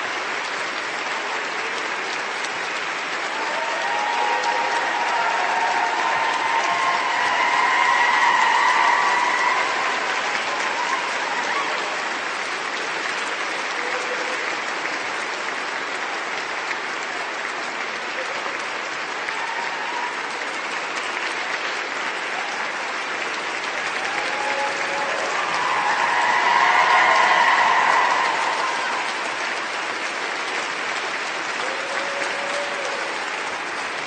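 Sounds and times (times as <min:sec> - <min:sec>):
crowd applauding: 0:00.0 - 0:34.0.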